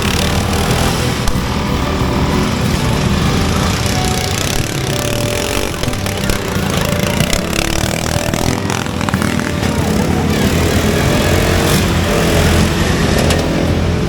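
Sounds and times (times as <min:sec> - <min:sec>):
lawn mower engines revving: 0:00.0 - 0:14.0.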